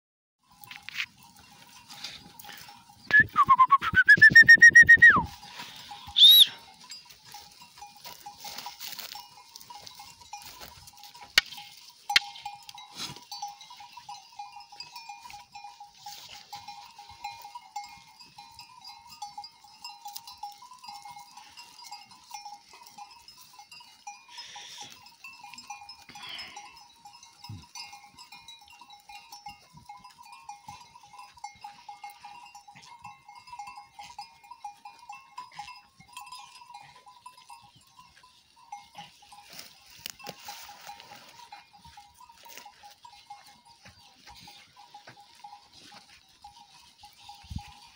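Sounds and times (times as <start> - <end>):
neck bells clinking: 0.4 - 47.9.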